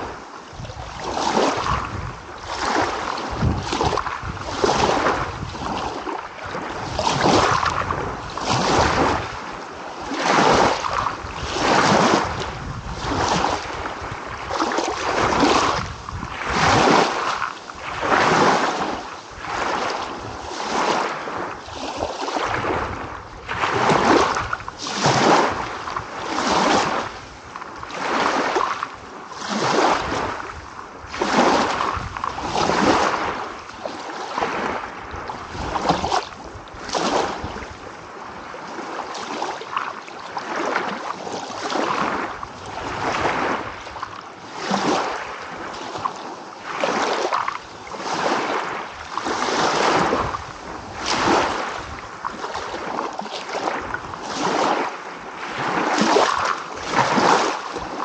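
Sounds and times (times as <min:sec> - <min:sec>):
small waves lapping: 0:00.0 - 0:58.0.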